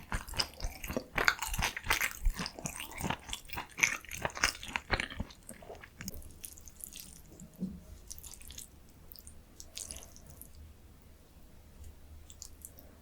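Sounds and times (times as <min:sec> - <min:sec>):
wet chewing sounds: 0:00.0 - 0:10.6, 0:12.3 - 0:13.0.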